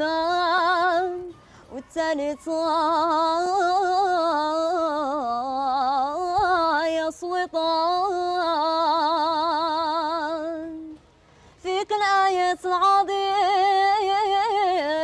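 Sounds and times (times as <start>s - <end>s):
woman singing unaccompanied: 0.0s - 11.0s, 11.6s - 15.0s.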